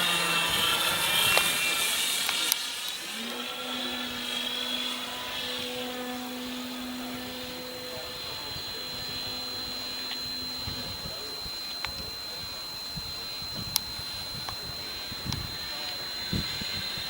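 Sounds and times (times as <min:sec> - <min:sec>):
model plane motor droning: 0:00.0 - 0:17.0.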